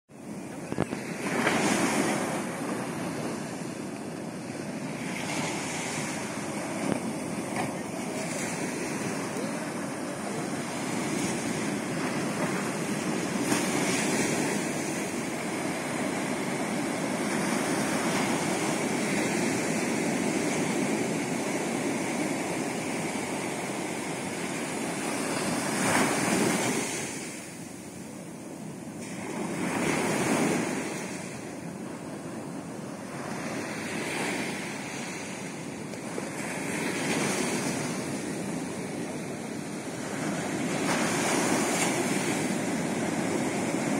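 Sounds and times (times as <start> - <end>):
ocean waves breaking: 0.1 - 43.9.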